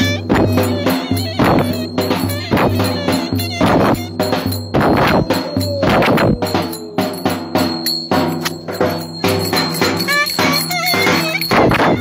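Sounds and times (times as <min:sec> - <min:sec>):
clarinet melody: 0:00.0 - 0:07.7, 0:09.9 - 0:12.0
drum beat: 0:00.0 - 0:12.0
jingling percussion: 0:00.0 - 0:12.0.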